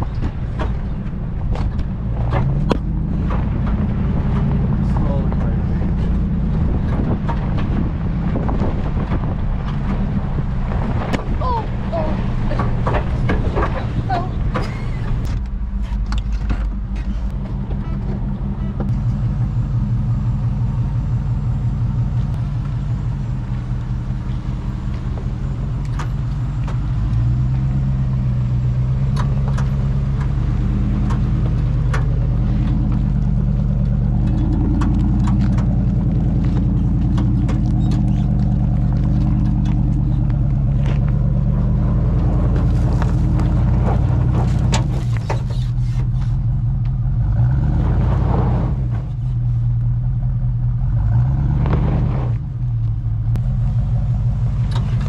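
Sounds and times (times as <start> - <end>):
body and suspension rattling: 0.0 - 55.0
car engine running off-road: 0.0 - 55.0.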